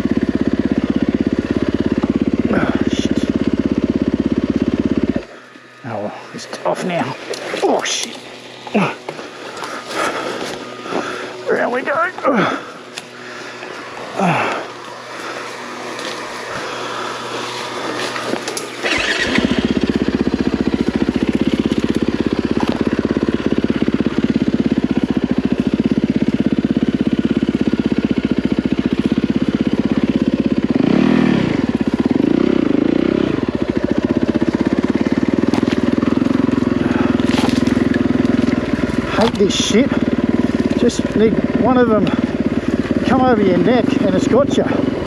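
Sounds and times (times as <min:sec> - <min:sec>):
dirt bike engine idling: 0:00.0 - 0:45.0.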